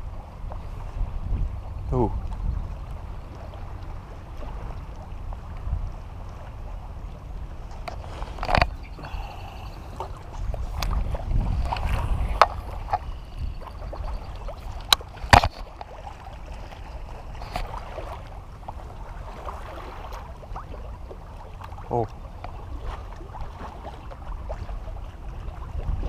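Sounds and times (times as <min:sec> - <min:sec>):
water lapping: 0:00.0 - 0:26.0
wind buffeting microphone: 0:00.0 - 0:26.0.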